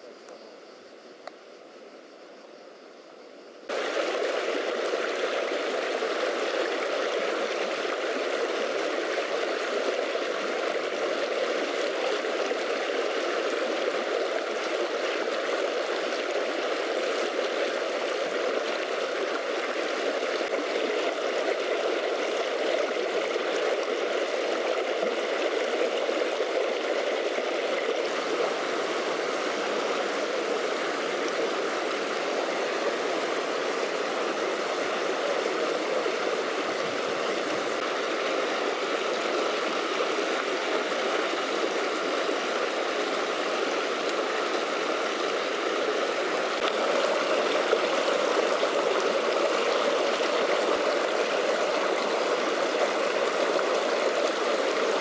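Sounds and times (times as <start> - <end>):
stream running over rocks: 3.6 - 55.0.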